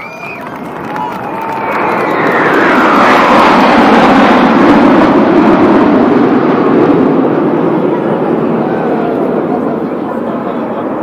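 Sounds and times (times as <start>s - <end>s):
jet roar passing: 0.0s - 11.0s.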